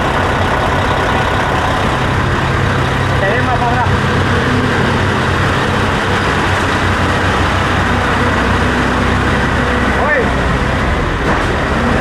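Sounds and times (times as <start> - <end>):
constant loud noise: 0.0 - 12.0
engine hum: 0.0 - 12.0.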